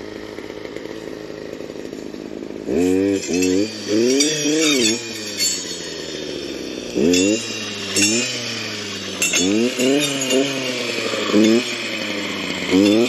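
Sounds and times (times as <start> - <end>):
clearing saw revving: 0.0 - 13.0
blade clinking on stems: 2.1 - 13.0.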